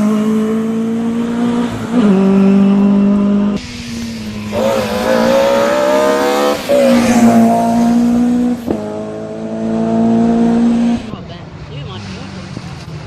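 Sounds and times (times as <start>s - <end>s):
rally car engine accelerating: 0.0s - 11.1s.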